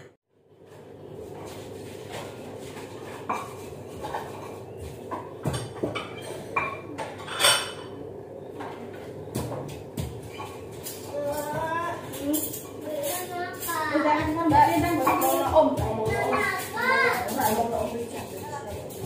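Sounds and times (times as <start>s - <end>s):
pots and pans clattering: 2.0s - 19.0s.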